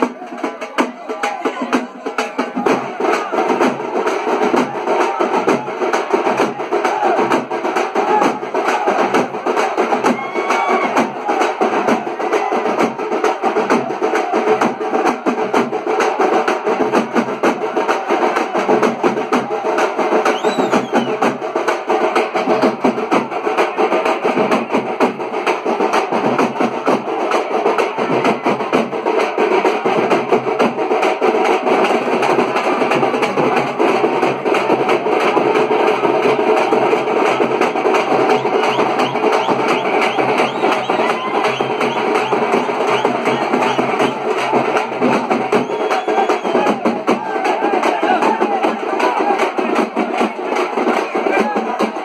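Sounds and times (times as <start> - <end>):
drums playing fast beat: 0.0 - 52.0.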